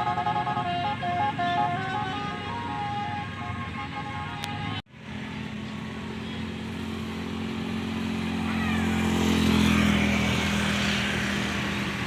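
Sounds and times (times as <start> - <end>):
bus diesel engine passing: 0.0 - 12.0.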